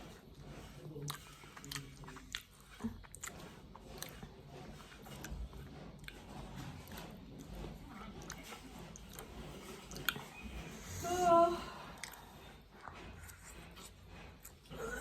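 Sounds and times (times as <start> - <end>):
person chewing food: 0.0 - 11.0, 11.8 - 15.0.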